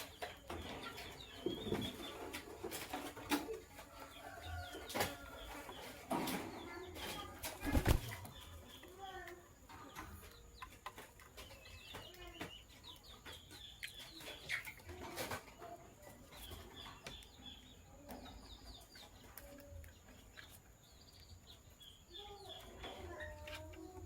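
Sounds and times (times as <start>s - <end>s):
lovebirds chirping: 0.0s - 24.0s.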